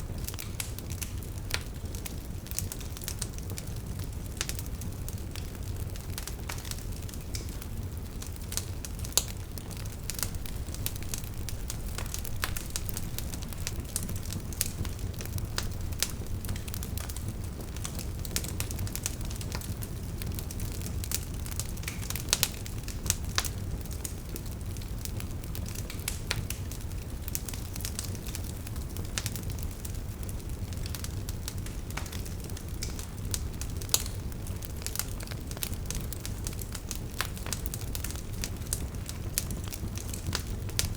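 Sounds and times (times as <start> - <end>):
burning logs crackling: 0.0 - 40.9
low rumble of flames: 0.0 - 40.9.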